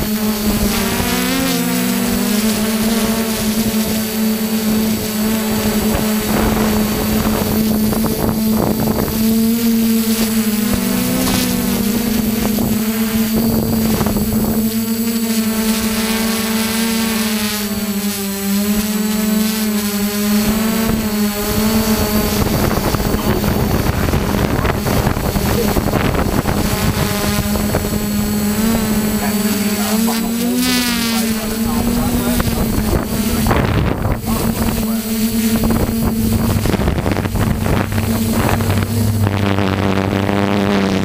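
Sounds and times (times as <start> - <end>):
wind noise: 0.0 - 15.3, 20.4 - 41.0
drone propellers humming: 0.0 - 41.0.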